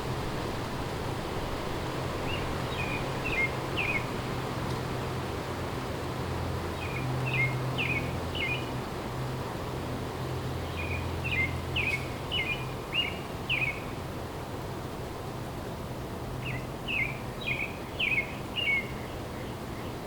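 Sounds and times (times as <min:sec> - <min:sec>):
distant highway traffic drone: 0:00.0 - 0:20.0
wind in trees: 0:00.0 - 0:20.0.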